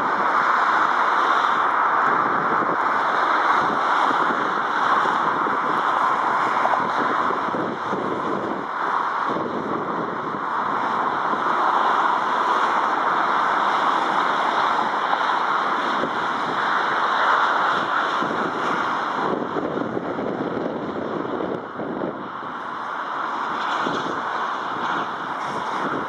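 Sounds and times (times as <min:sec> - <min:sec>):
aircraft engine noise: 0:00.0 - 0:26.0
gusty wind on microphone: 0:00.0 - 0:26.0.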